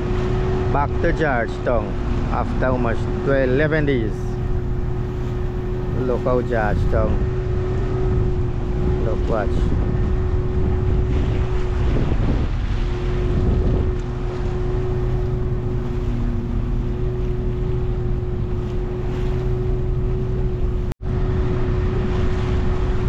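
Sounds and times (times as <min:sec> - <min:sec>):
boat engine droning: 0:00.0 - 0:23.0
wind buffeting microphone: 0:00.0 - 0:23.0.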